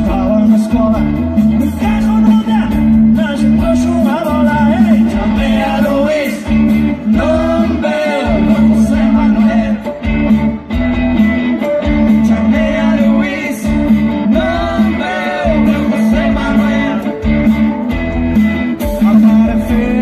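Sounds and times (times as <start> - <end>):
bass guitar: 0.0 - 20.0
drums: 0.0 - 20.0
electric guitars: 0.0 - 20.0.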